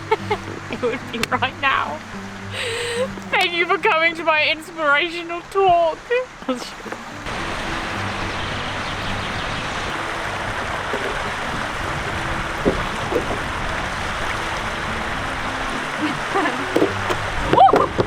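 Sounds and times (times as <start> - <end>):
fast-flowing water rushing: 0.0 - 18.0.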